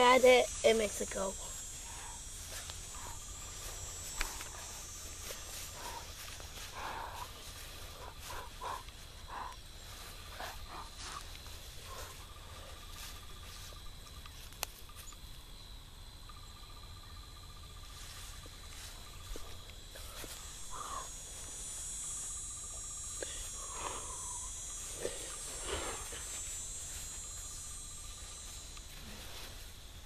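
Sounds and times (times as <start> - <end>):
fast pulsing insect trill: 0.0 - 30.0
high insect hiss: 0.0 - 30.0
insects droning: 0.0 - 30.0.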